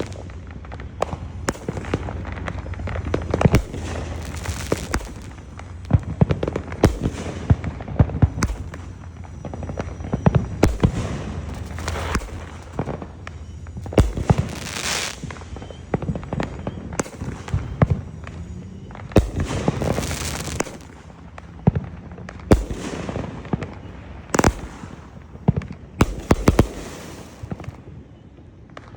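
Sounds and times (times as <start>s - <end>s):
firework hissing: 0.0s - 27.8s
firework bangs and cracks: 0.0s - 28.9s.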